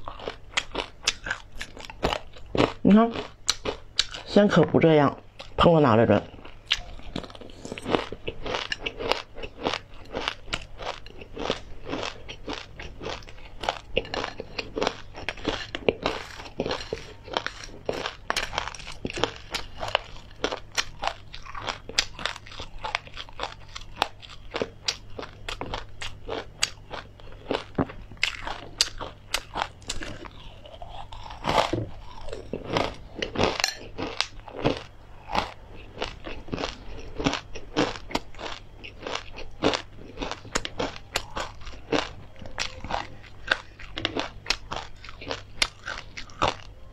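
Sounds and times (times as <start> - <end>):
crunchy chewing: 0.0 - 4.3, 5.3 - 46.9.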